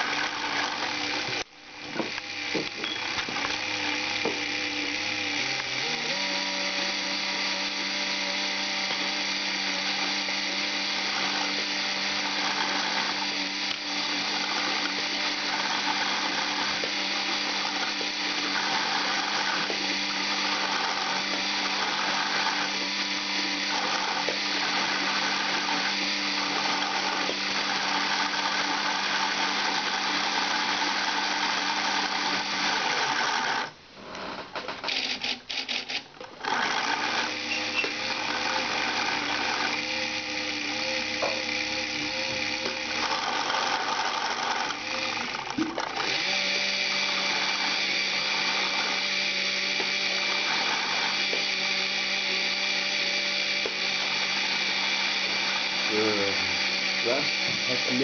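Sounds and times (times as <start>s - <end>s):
electric motor and gears whirring: 0.0s - 58.0s.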